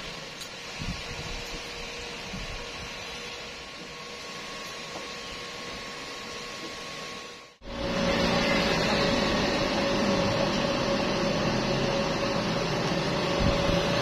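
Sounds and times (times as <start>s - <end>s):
cooling fan whirring: 0.0s - 14.0s
welding machine humming: 0.0s - 14.0s.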